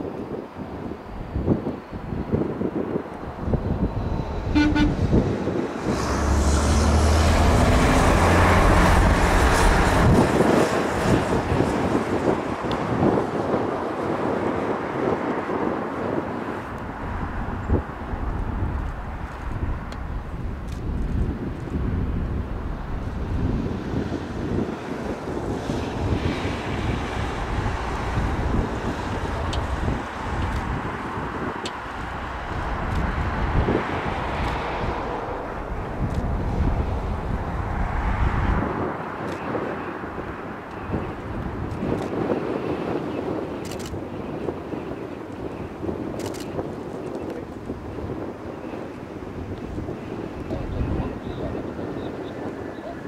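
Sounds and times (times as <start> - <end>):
jet engines on approach: 0.0 - 53.0
wind buffeting microphone: 0.0 - 53.0.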